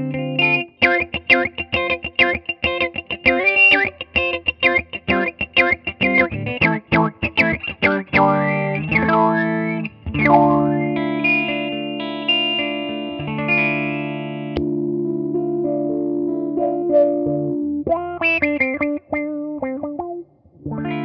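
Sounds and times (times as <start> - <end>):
electric guitar with auto-wah: 0.0 - 21.0.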